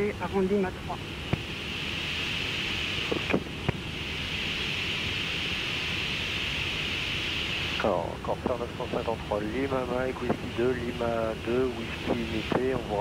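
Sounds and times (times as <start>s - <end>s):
cockpit high hiss: 0.0s - 13.0s.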